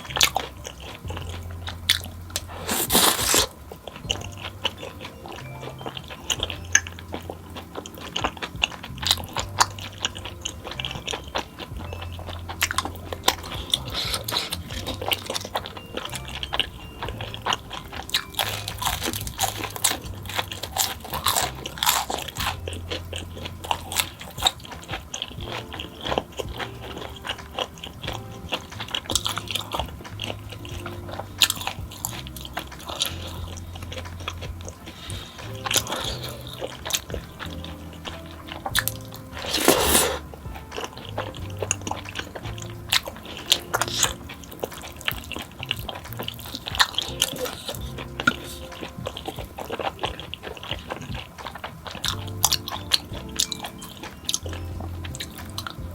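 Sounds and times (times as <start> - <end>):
chewing crunchy food: 0.0 - 55.9
wet mouth sounds: 0.0 - 55.9.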